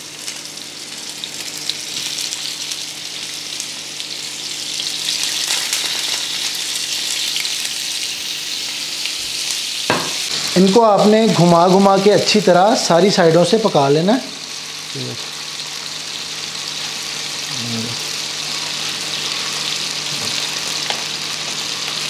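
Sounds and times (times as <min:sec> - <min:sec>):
kebabs sizzling in oil: 0:00.0 - 0:22.0.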